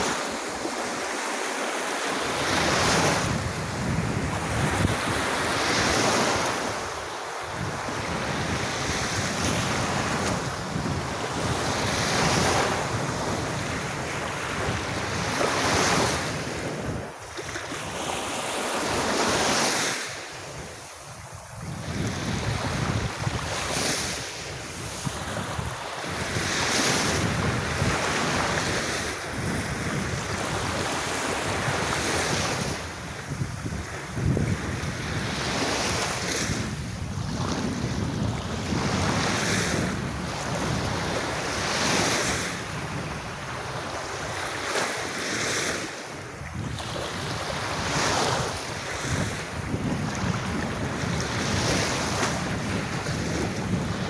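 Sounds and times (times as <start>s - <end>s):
sea waves washing onto beach: 0.0s - 54.0s
wind on microphone: 2.0s - 54.0s.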